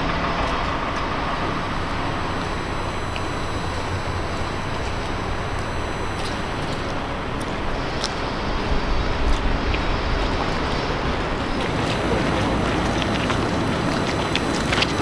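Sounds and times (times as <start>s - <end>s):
distant trains and traffic rumble: 0.0s - 15.0s.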